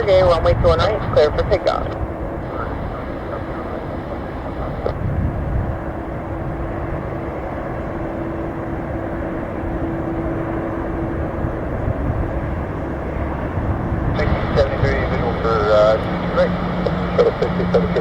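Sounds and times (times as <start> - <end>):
jet engines rushing: 0.0 - 18.0
steady hum: 0.0 - 18.0.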